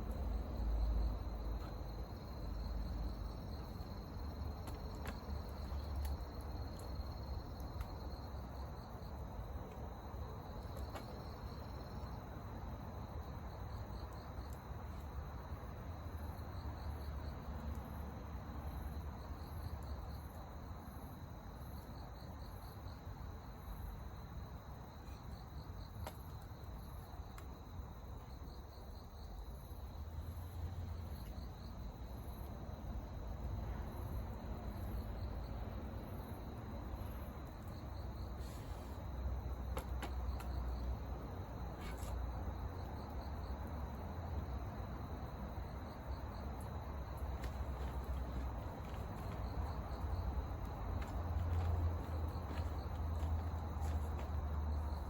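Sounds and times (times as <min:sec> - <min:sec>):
insects chirping in pulses: 0:00.0 - 0:55.0.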